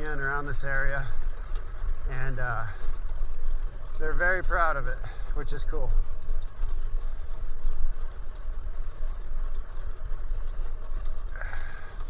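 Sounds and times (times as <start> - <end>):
bicycle road noise rumble: 0.0 - 12.0
wind buffeting microphone: 0.0 - 12.0.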